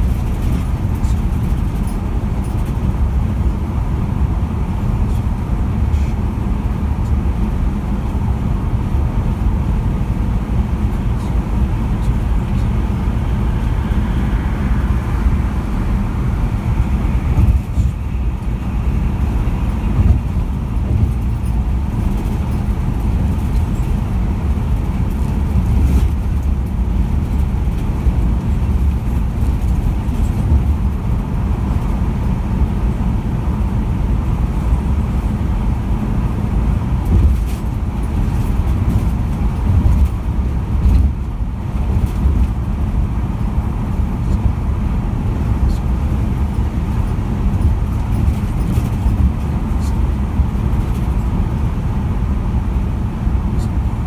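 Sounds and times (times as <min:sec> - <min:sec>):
vehicle road rumble: 0:00.0 - 0:54.0.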